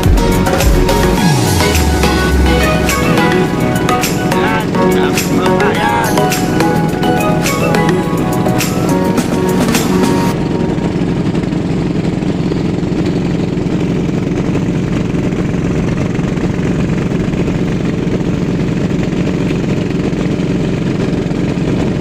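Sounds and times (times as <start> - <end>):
boat engine low drone: 0.0 - 22.0.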